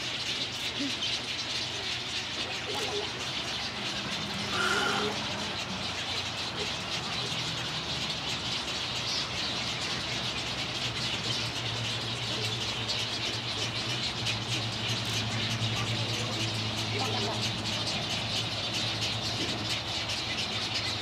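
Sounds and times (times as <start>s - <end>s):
birds chattering in colony: 0.0s - 21.0s.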